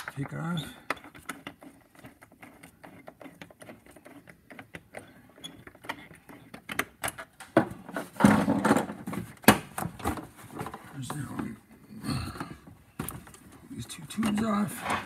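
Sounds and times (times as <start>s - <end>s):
rustling and knocking: 0.0s - 11.8s, 12.4s - 15.0s.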